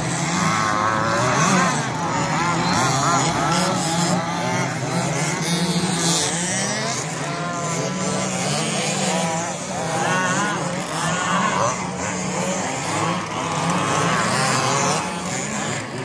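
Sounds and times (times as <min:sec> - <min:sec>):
rc buggy motors whining: 0:00.0 - 0:16.0.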